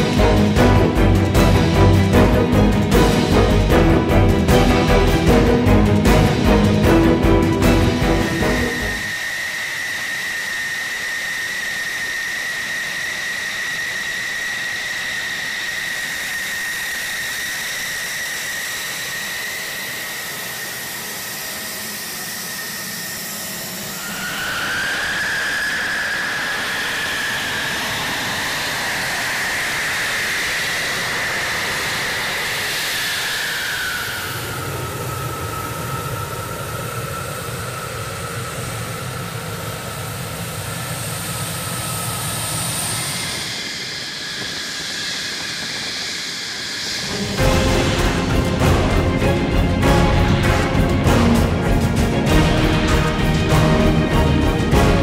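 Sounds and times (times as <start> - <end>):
jet engine turbine whine: 0.0 - 55.0.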